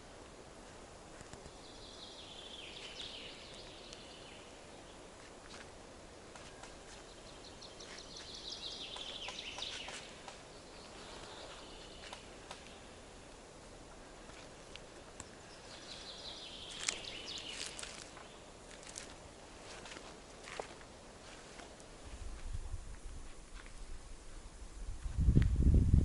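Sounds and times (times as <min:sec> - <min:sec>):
faint background noise: 0:00.0 - 0:26.0
songbird singing: 0:01.1 - 0:22.8.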